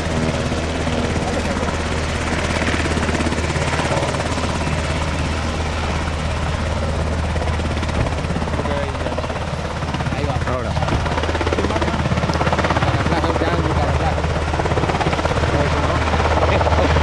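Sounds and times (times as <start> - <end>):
helicopter rotor drone: 0.0 - 17.0.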